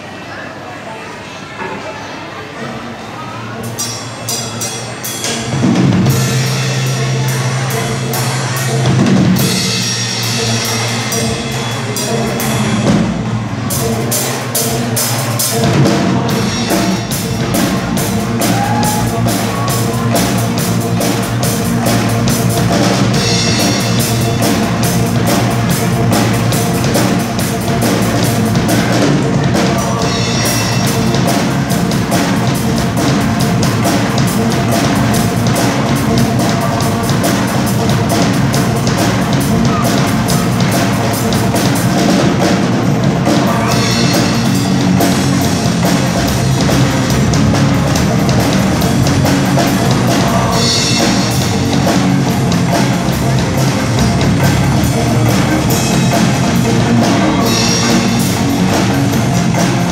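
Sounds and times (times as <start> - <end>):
drum kit playing: 3.6 - 59.9
sustained bass and keyboard tones: 3.6 - 59.9.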